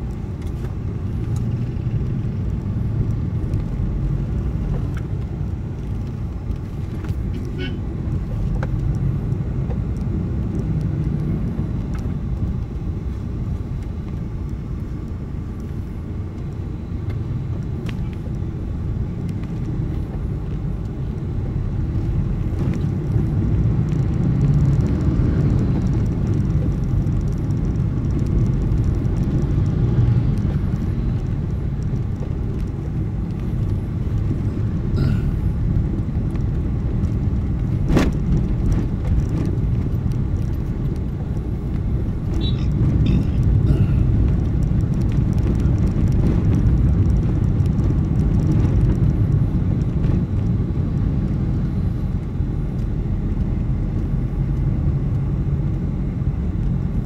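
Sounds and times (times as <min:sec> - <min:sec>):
vehicle rumbling on the move: 0:00.0 - 0:57.0.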